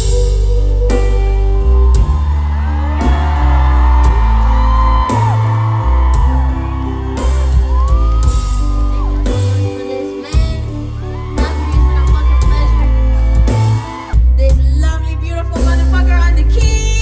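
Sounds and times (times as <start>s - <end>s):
live concert music with heavy bass: 0.0s - 17.0s.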